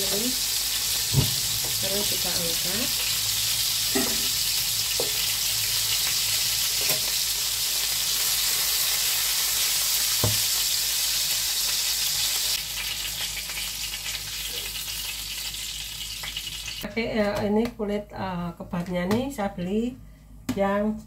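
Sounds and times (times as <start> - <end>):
patties sizzling in frying pan: 0.0 - 16.9.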